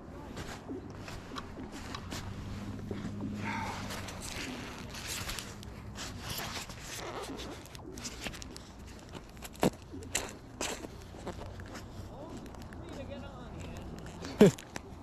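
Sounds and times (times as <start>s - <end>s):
scraping and rustling handling noises: 0.1s - 15.0s.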